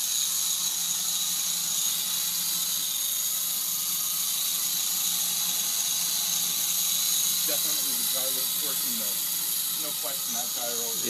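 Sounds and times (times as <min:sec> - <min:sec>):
rc helicopter rotor whine: 0:00.0 - 0:11.0.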